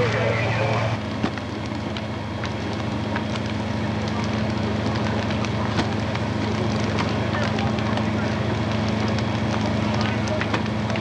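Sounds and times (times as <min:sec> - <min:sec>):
fire crackling and popping: 0:00.0 - 0:11.0
fire rushing: 0:00.0 - 0:11.0
low hum: 0:00.0 - 0:11.0.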